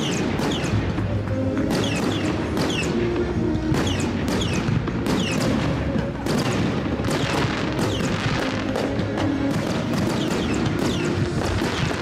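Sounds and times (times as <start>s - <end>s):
background music: 0.0s - 12.0s
fireworks bangs and booms: 0.0s - 12.0s.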